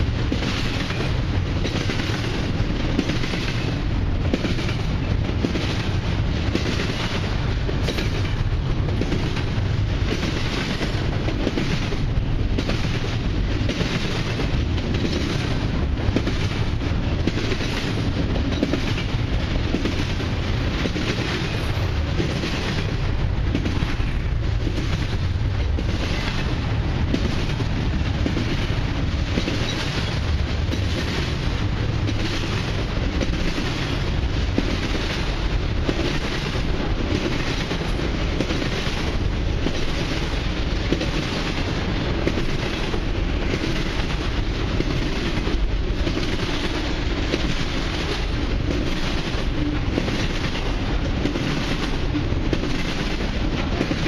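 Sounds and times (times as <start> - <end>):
freight cars rumbling on rail: 0.0 - 54.0
wheels clickety-clack: 0.0 - 54.0.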